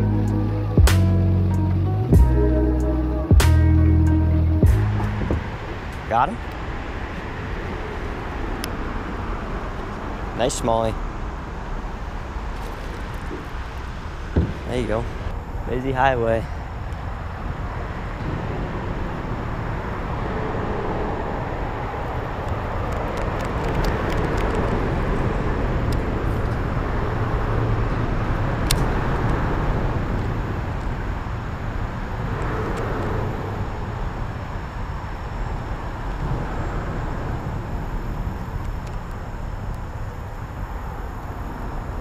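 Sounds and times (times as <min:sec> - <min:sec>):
highway traffic: 0:00.0 - 0:42.0.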